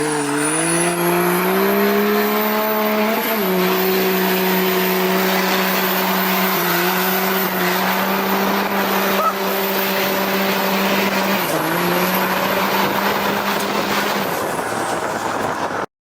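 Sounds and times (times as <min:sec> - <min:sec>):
diesel truck engine revving: 0:00.0 - 0:15.9.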